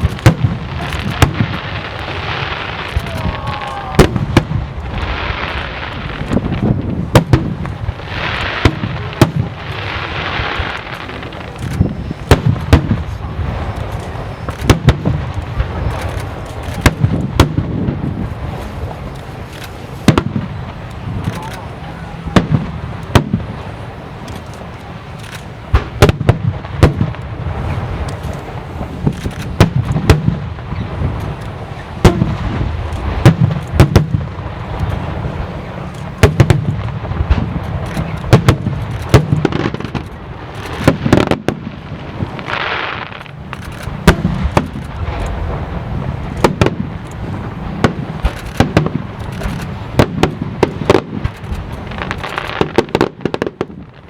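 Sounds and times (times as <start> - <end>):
firework shells bursting: 0.0 - 54.0.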